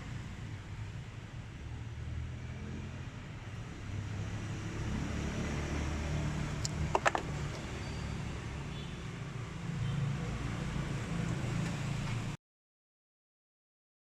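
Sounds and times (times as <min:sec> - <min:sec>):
motor vehicle rumbling: 0:00.0 - 0:12.4.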